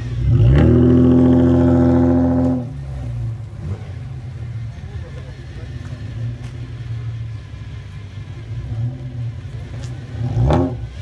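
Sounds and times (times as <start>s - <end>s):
car exhaust rumbling: 0.0s - 11.0s
engine revving: 0.0s - 11.0s.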